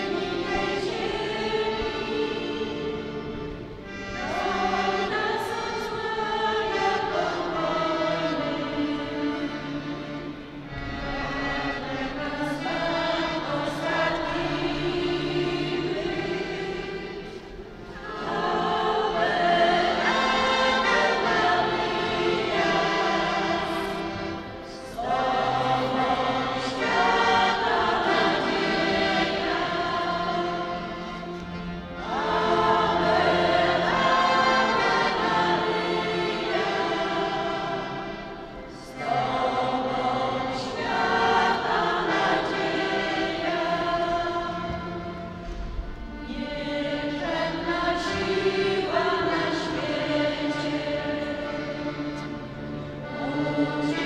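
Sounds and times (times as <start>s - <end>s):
piano accordion: 0.0s - 54.0s
women's choir singing: 0.0s - 54.0s.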